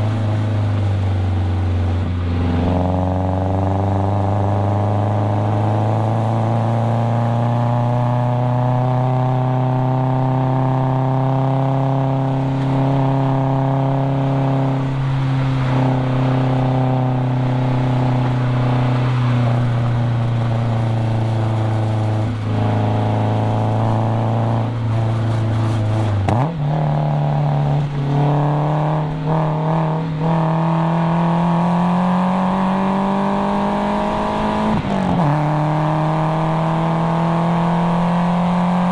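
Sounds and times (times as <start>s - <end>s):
car engine and exhaust under load: 0.0s - 38.9s.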